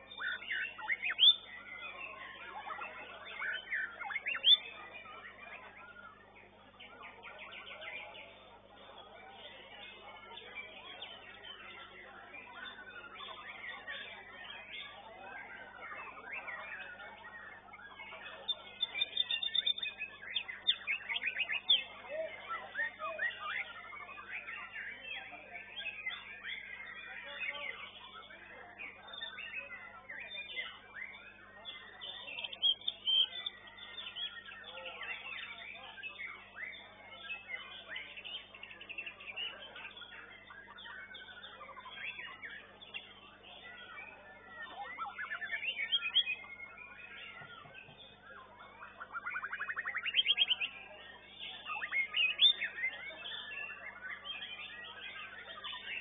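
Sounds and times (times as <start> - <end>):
bird singing rapid trills and whistles: 0.0 - 56.0.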